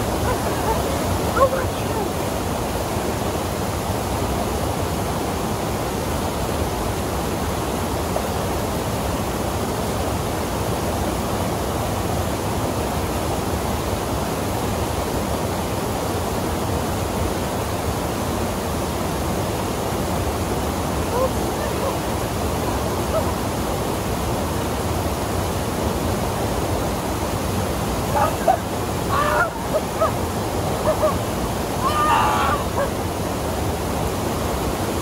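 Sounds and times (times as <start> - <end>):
waterfall pouring over rocks: 0.0 - 35.0
white-water rapids rushing: 0.0 - 35.0.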